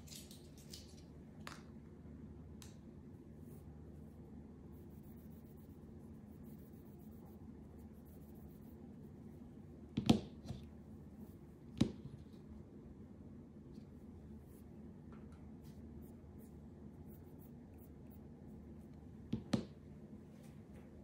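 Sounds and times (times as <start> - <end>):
faint room noise: 0.0 - 21.0.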